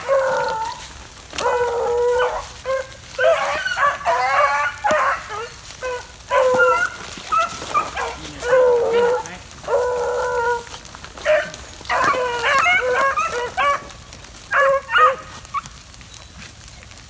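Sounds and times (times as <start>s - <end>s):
dogs baying and barking: 0.0s - 17.0s.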